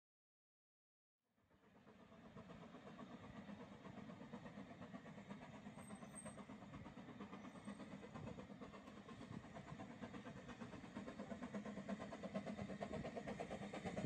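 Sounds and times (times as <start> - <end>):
steam locomotive rumble and hiss: 1.4 - 14.0.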